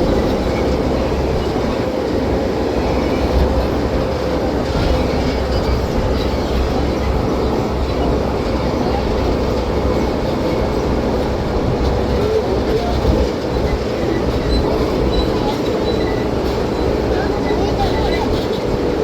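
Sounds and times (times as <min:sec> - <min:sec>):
tram engine and road rumble: 0:00.0 - 0:19.0.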